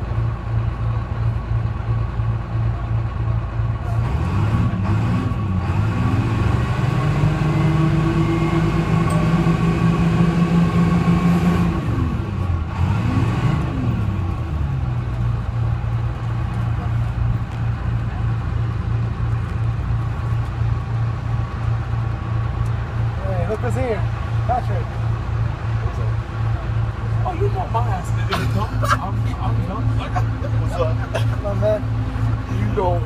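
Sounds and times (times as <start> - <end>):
diesel bus engine idling and revving: 0.0 - 33.0.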